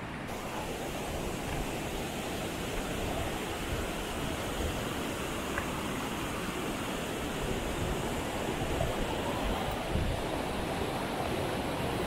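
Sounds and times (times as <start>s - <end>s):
waterfall rushing: 0.3s - 12.0s.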